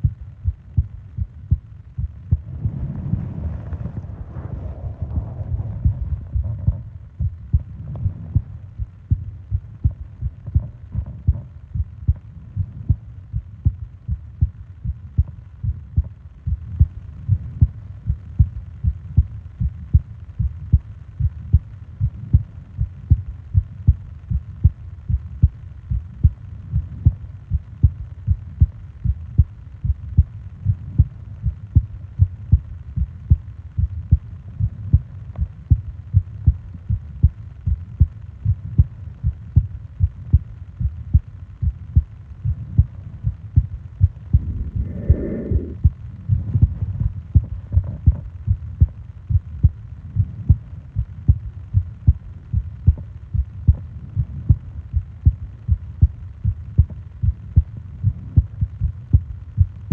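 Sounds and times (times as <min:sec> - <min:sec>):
heartbeat thuds: 0:00.0 - 0:04.5, 0:05.1 - 0:59.9.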